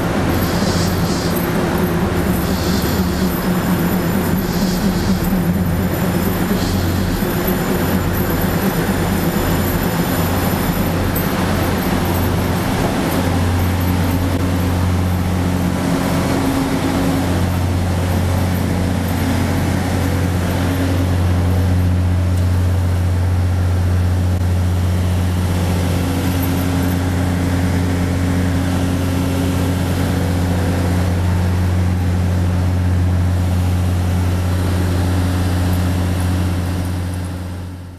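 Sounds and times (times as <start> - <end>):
train humming: 0.0 - 37.9.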